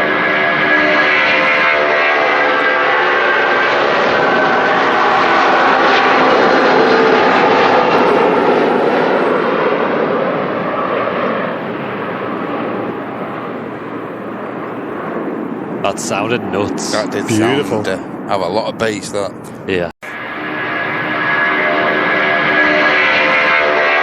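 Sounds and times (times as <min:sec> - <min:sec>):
airplane engine roar overhead: 0:00.0 - 0:24.0.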